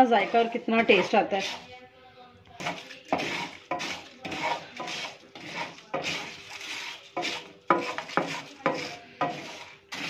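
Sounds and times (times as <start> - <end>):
spatula scraping seeds in pan: 0.1 - 1.8, 2.5 - 10.0.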